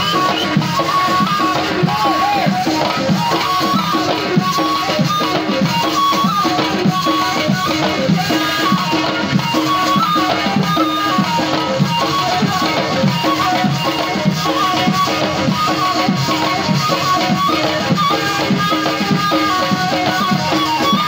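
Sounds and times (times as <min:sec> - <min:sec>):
frame drums beating: 0:00.0 - 0:21.0
reed flute melody: 0:00.0 - 0:21.0.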